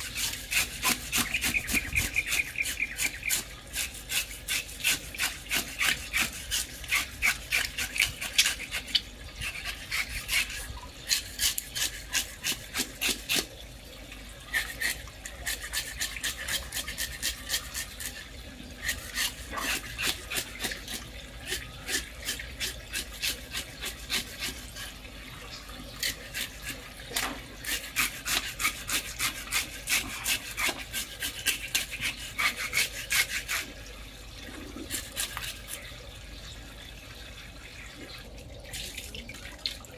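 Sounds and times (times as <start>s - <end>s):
knife scraping fish scales: 0.0s - 13.6s, 14.5s - 25.1s, 25.9s - 33.8s, 34.6s - 35.9s.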